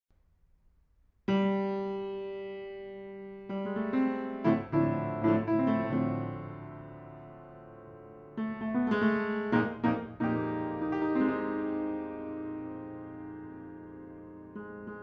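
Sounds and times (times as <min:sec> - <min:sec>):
upright piano chords and notes: 0:01.3 - 0:15.0.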